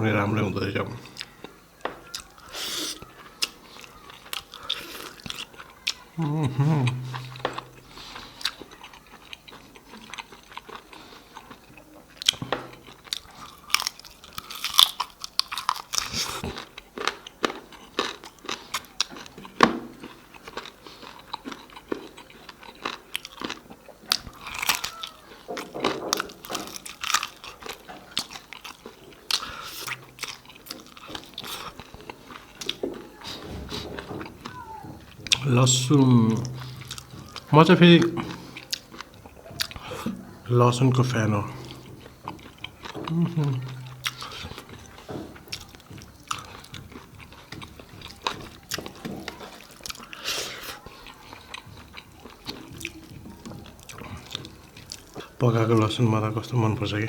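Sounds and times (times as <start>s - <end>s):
chewing and smacking: 1.0s - 56.1s.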